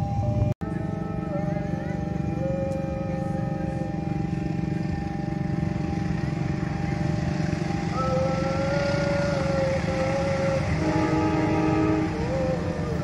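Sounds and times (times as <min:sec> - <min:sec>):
diesel locomotive engine rumble: 0:00.0 - 0:13.0
higher wavering tones: 0:00.0 - 0:13.0.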